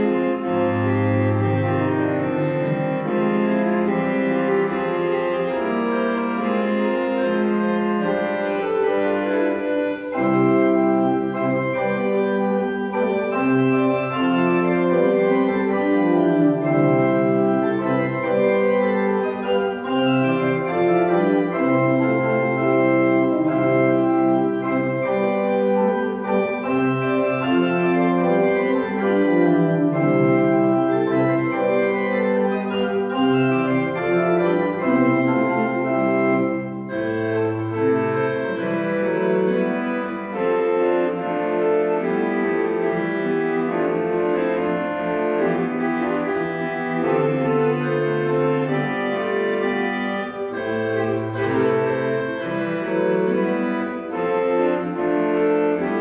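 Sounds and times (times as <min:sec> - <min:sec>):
church organ playing chords: 0:00.0 - 0:56.0.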